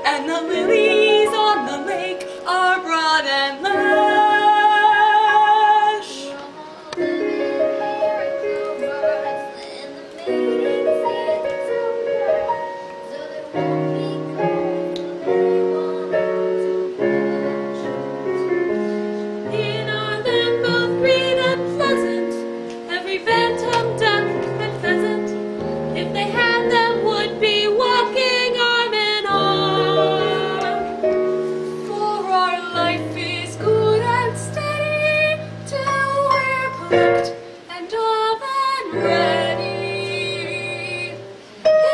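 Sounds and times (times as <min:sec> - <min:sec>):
person singing: 0:00.0 - 0:41.9.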